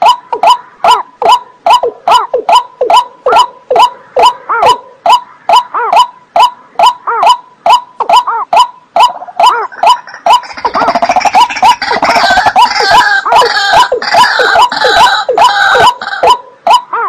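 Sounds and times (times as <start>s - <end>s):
waterbirds croaking calls: 0.0s - 17.0s.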